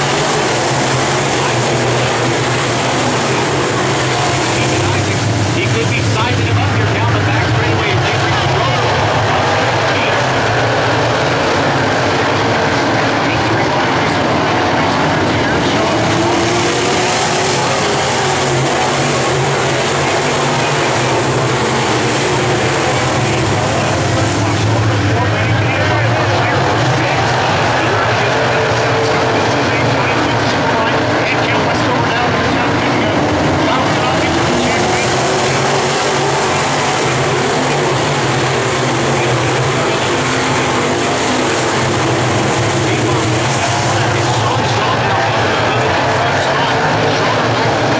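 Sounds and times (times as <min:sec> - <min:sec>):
race car engines droning: 0:00.0 - 0:47.9.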